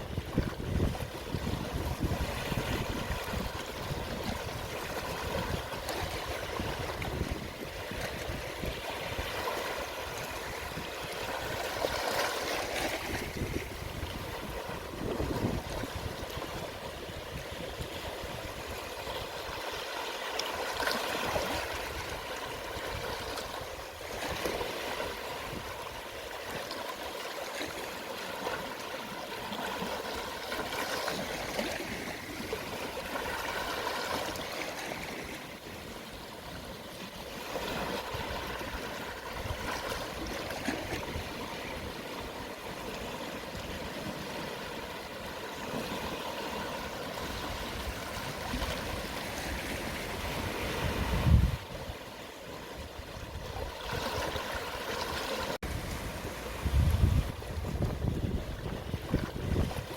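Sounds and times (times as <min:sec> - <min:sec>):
small sea waves washing ashore: 0:00.0 - 0:59.9.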